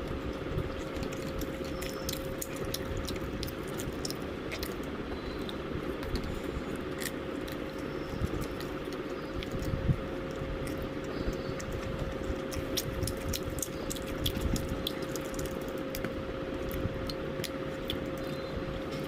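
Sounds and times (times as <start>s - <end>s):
chewing crispy fried chicken: 0.0s - 19.0s
low background hum: 0.0s - 19.0s.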